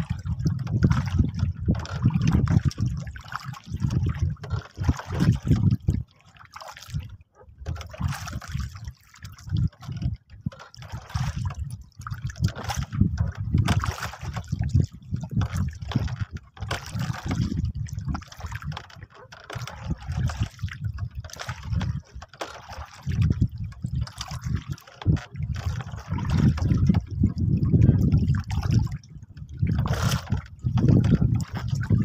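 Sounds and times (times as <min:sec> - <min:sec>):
water lapping against boat hull: 0:00.0 - 0:32.0.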